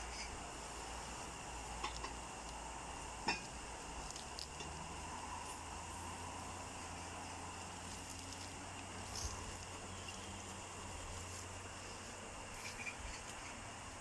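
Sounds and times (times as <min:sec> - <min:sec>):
faint background hum and hiss: 0:00.0 - 0:14.0
small ticks and clicks: 0:00.1 - 0:14.0.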